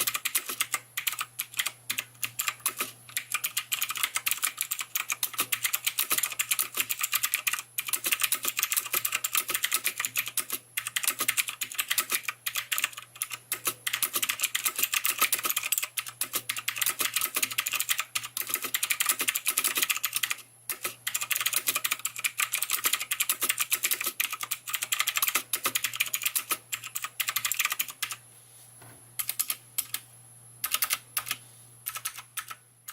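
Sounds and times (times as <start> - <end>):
mechanical keyboard typing: 0.0 - 28.2, 29.2 - 30.0, 30.6 - 32.9
faint low hum: 0.0 - 32.9.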